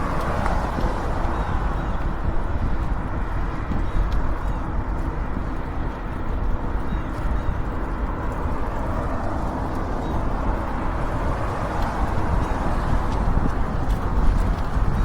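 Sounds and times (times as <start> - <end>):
tyre and road noise: 0.0 - 15.0
wind rush on microphone: 0.0 - 15.0.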